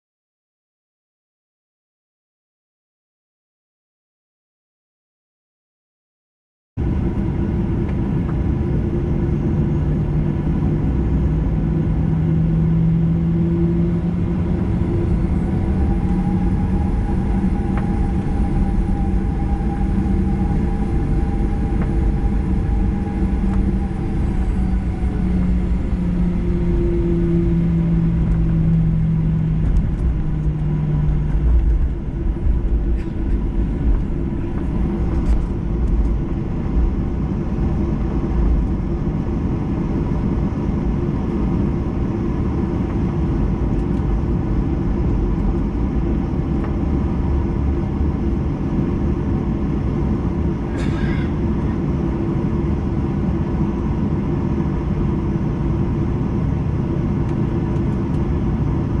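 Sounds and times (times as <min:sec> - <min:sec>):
jet engine whine: 0:06.8 - 0:59.0
jet engines rumbling: 0:06.8 - 0:59.0.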